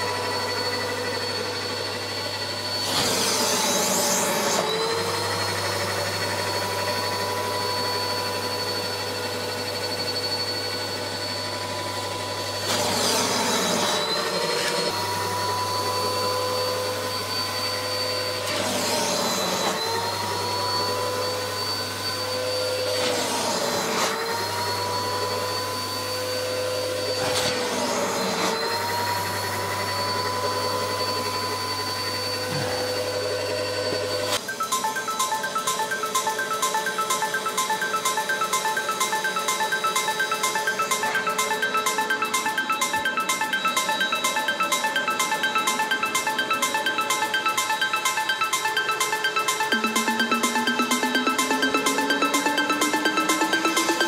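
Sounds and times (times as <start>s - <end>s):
vacuum cleaner whine: 0.0s - 54.0s.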